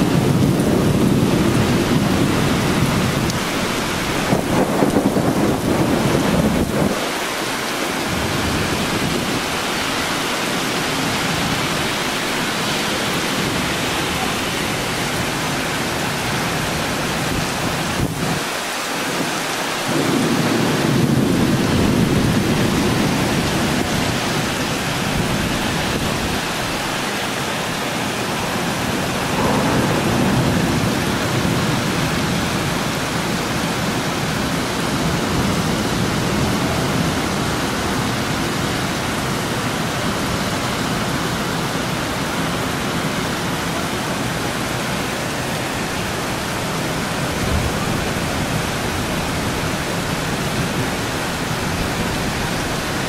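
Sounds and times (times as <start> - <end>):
thunder rumbling: 0.0 - 43.4, 44.0 - 53.0
heavy rain hissing: 0.0 - 53.0.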